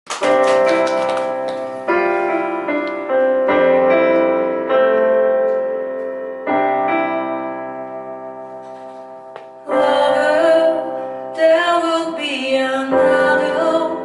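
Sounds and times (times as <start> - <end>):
piano chords ringing: 0.1 - 14.0.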